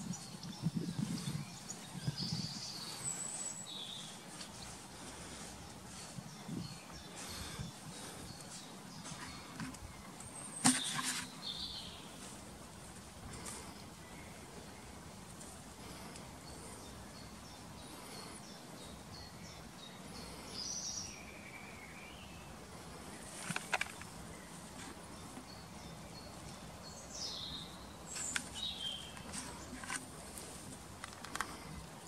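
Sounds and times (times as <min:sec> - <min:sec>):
faint outdoor hiss: 0:00.0 - 0:32.0
small birds chirping: 0:00.0 - 0:32.0.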